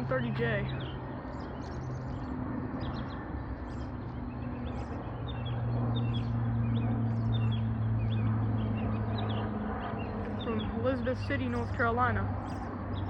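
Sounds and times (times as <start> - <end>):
birds chirping: 0.0 - 13.0
turboprop aircraft engine drone: 0.0 - 13.0.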